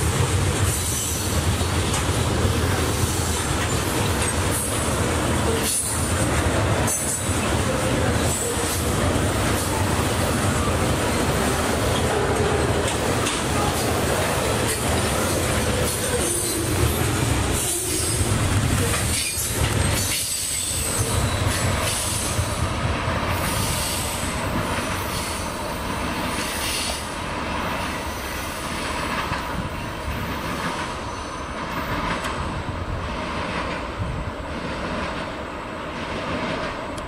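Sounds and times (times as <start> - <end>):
freight train rumbling and clattering: 0.0 - 37.0.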